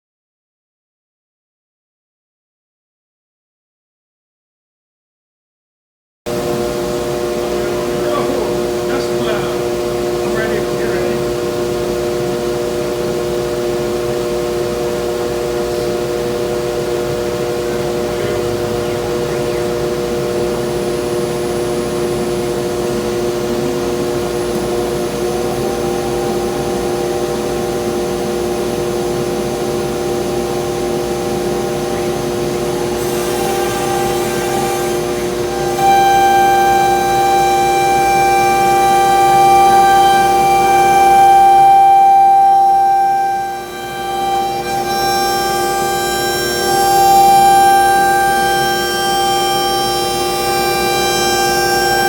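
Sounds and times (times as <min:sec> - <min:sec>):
electric motor whine: 0:06.3 - 0:52.0.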